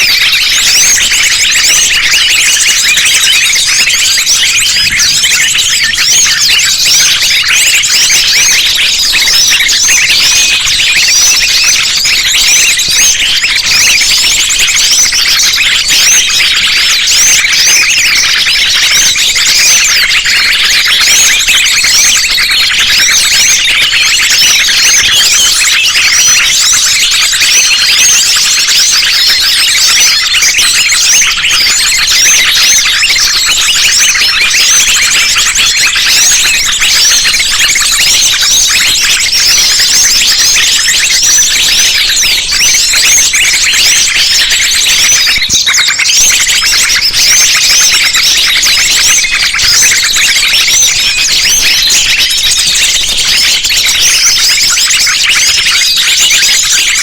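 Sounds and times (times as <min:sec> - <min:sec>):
small songbirds chirping and trilling: 0:00.0 - 0:57.0.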